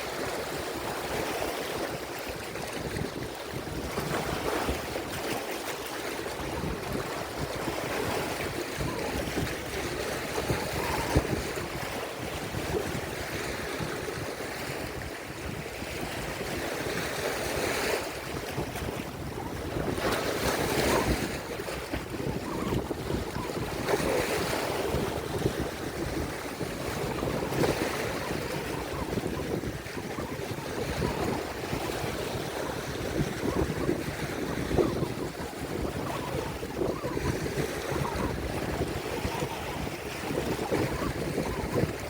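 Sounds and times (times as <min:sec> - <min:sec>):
waves breaking on shore: 0:00.0 - 0:42.0
wind buffeting microphone: 0:00.0 - 0:42.0.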